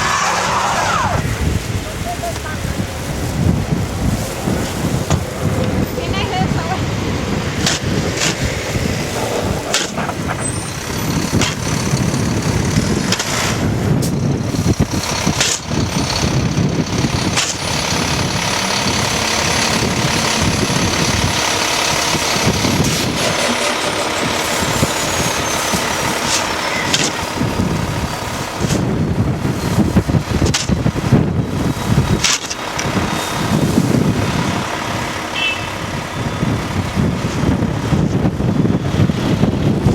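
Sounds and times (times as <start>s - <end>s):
car tyres spinning in snow: 0.0s - 39.9s
wind rumble on microphone: 0.0s - 39.9s
car engine running: 0.1s - 39.9s.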